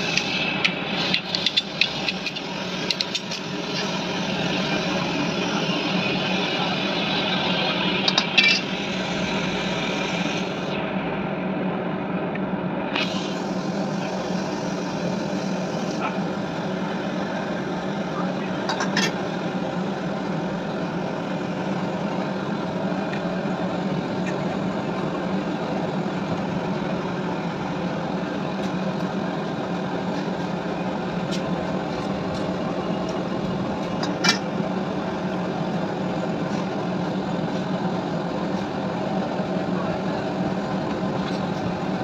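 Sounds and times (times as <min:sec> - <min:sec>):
steady mechanical running noise: 0:00.0 - 0:42.0.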